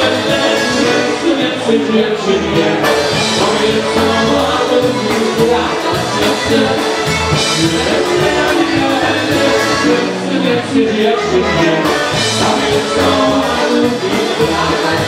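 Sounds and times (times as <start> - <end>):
polka band music: 0.0 - 15.0.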